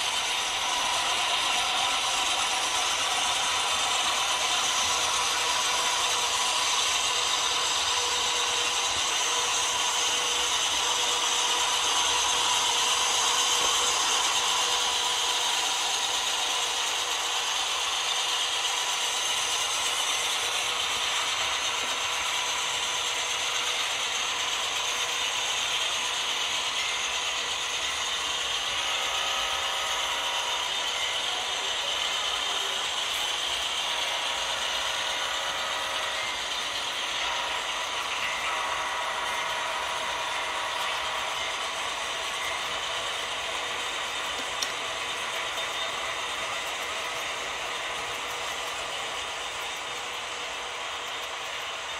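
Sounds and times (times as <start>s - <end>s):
model train wheels clattering: 0.0s - 51.9s
thin steady whine: 0.0s - 51.9s.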